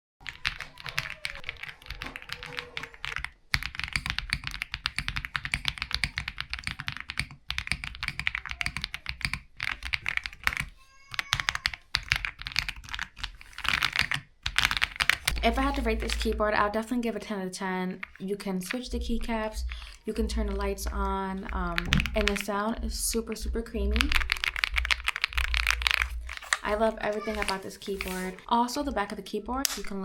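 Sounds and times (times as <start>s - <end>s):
mechanical keyboard typing: 0.2s - 16.6s, 18.0s - 28.2s.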